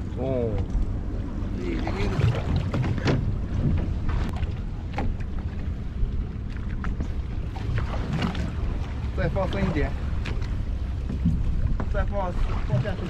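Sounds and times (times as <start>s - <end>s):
boat engine rumble: 0.0s - 13.0s
water against hull: 0.0s - 13.0s.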